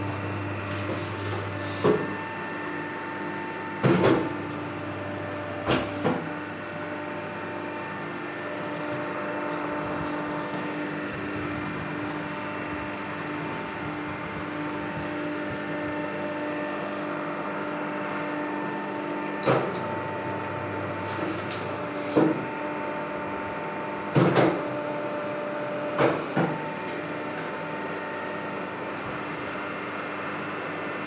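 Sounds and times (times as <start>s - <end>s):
pump motor hum: 0.0s - 31.0s.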